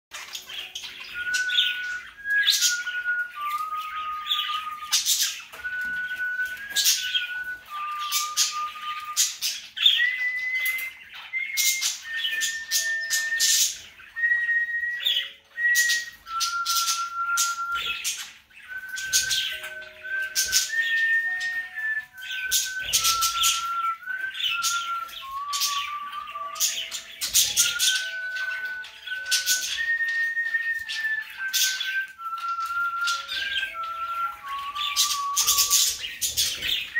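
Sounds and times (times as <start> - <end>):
whistled tune: 0.1 - 36.9
cockatiels chirping and squawking: 0.2 - 14.2, 15.0 - 36.9.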